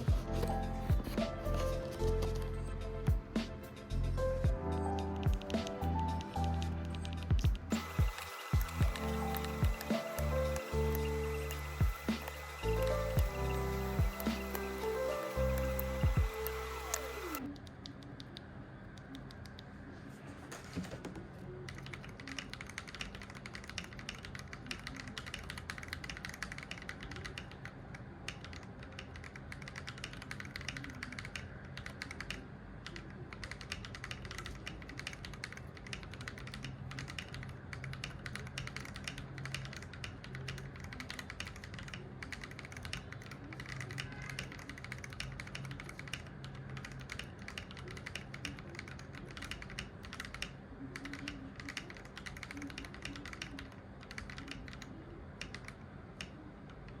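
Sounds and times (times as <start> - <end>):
fast typing on mechanical keyboard: 5.2 - 17.4, 21.5 - 57.0.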